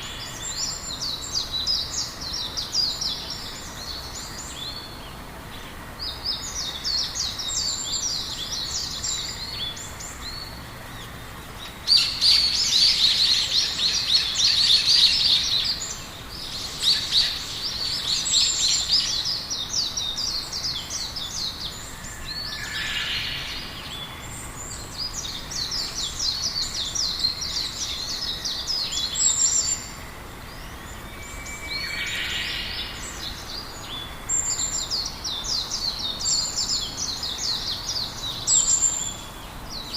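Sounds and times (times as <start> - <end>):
faint outdoor hiss: 0.0 - 39.9
songbirds singing: 0.0 - 39.9.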